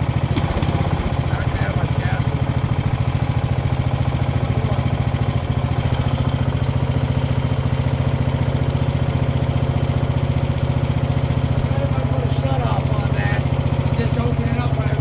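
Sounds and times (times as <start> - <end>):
lawn mower engine idling: 0.0 - 15.0.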